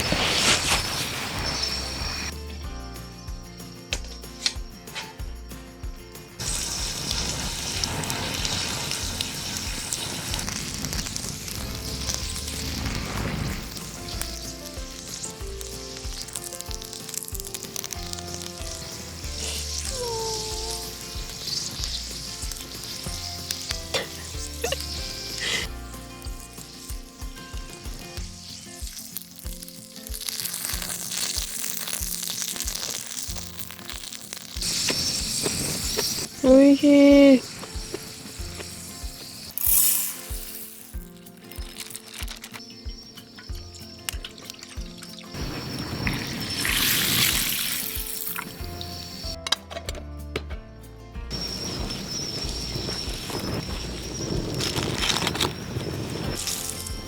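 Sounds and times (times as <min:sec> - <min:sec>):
food sizzling in hot pan: 0:00.0 - 0:05.6, 0:06.3 - 0:49.4, 0:51.3 - 0:57.0
background music: 0:00.0 - 0:57.0.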